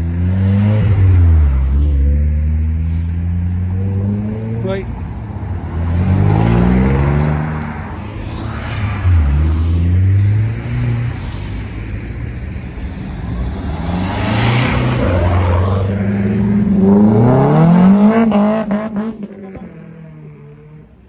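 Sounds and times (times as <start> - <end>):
car accelerating: 0.0 - 11.6, 12.9 - 21.0.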